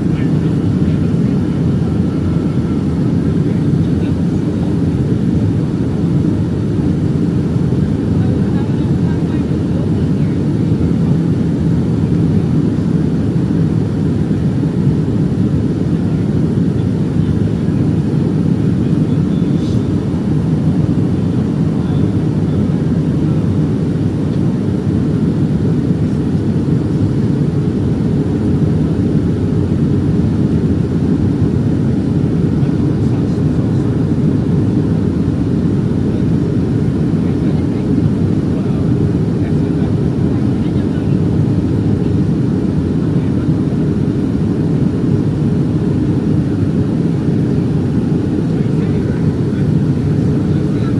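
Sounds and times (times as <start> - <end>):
airplane cabin airflow rush: 0.0 - 50.9
jet engines running: 0.0 - 50.9.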